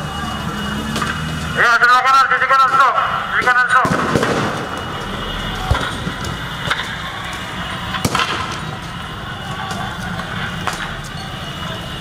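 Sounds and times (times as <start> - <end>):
street riot din: 0.0 - 12.0
sharp bangs: 0.8 - 11.1.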